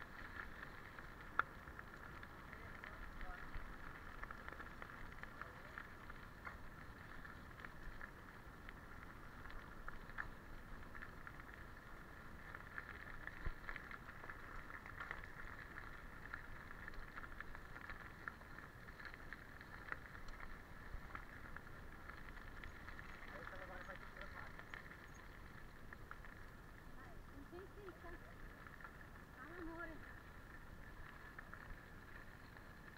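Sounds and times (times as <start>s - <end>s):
bike tyres on gravel: 0.0s - 32.9s
small clicks and rattles: 0.0s - 32.9s.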